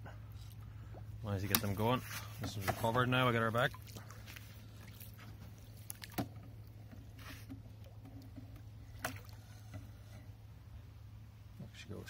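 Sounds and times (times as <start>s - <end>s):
water sloshing around landing net: 0.4s - 10.4s.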